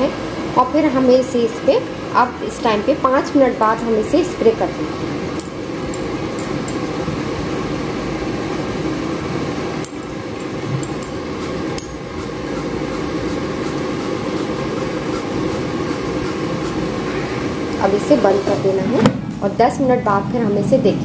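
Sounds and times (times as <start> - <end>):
air fryer fan humming: 0.0 - 21.0.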